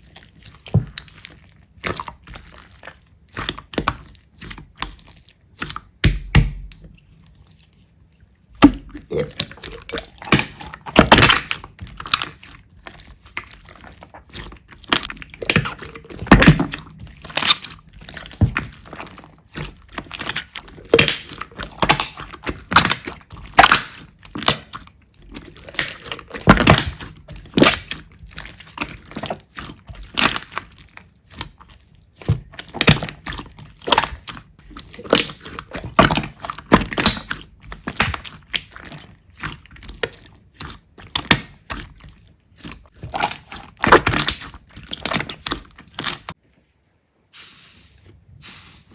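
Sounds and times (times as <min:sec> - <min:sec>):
slime squished by hand: 0:00.0 - 0:08.0, 0:08.6 - 0:46.4.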